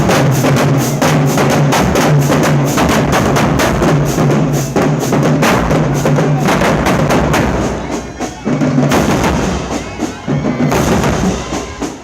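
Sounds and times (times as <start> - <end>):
marching band playing: 0.0 - 12.0
snare and bass drums: 0.0 - 12.0.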